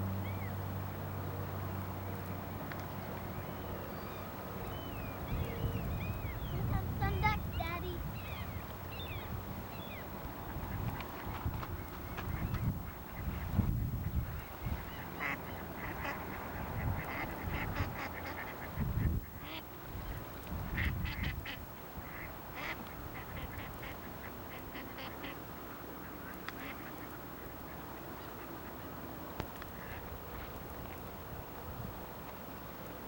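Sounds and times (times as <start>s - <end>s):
waterfowl calling: 3.5s - 29.0s, 29.6s - 30.6s.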